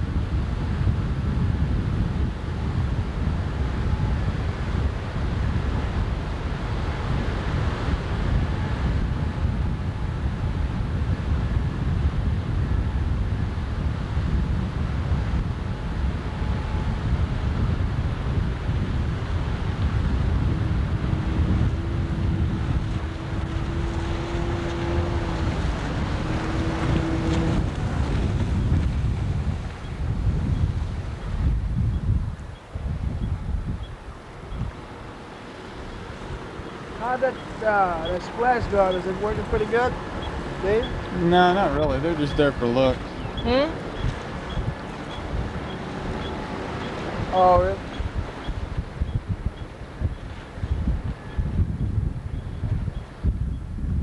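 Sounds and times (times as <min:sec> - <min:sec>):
outboard motor droning: 0:00.0 - 0:53.8
wind buffeting microphone: 0:00.0 - 0:54.0.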